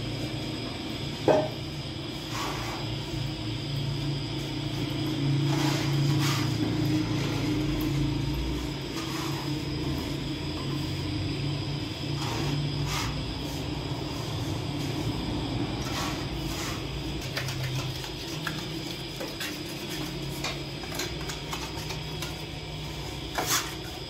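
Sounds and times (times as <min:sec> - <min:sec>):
bakery machinery humming: 0:00.0 - 0:24.0.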